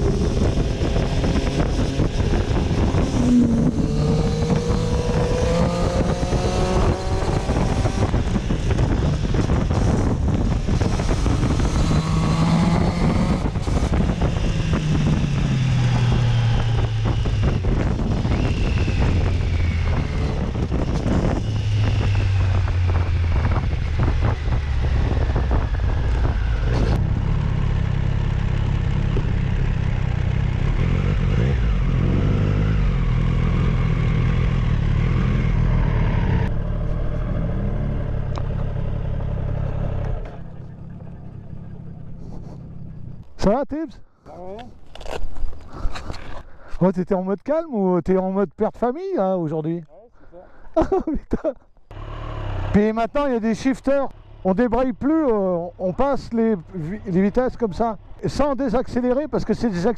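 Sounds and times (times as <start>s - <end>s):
motorcycle engine accelerating: 0.0s - 43.4s, 50.8s - 59.9s.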